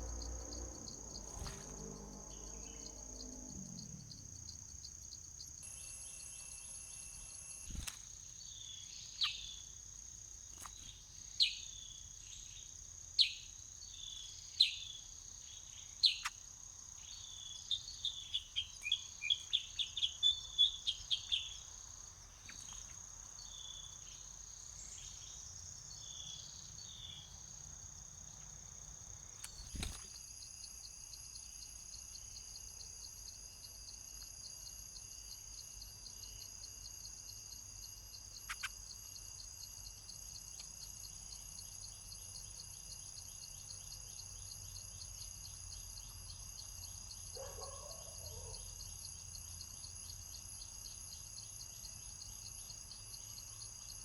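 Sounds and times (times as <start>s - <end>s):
fast-pulsing insect chirr: 0.0s - 54.0s
insects chirring: 0.0s - 54.0s.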